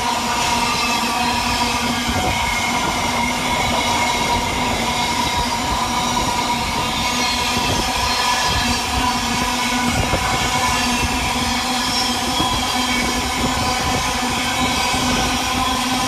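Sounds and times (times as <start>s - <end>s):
constant whine: 0.0s - 16.0s.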